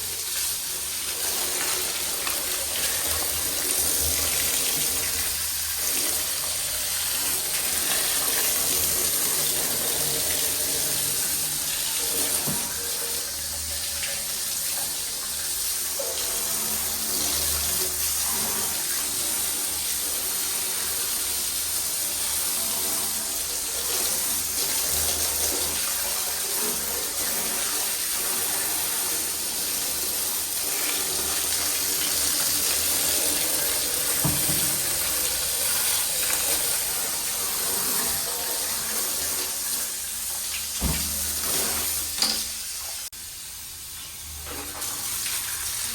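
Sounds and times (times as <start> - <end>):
water running: 0.0 - 45.9.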